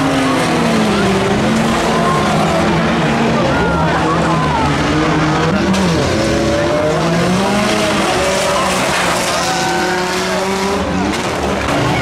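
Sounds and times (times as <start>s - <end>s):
racing van engines: 0.0s - 12.0s.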